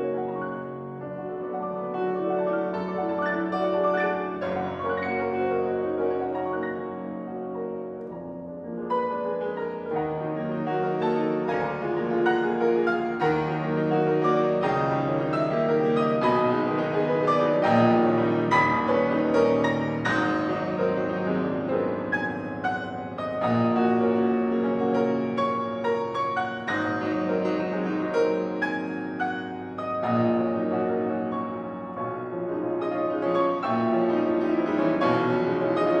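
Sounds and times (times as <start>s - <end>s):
solo piano piece: 0.0s - 36.0s.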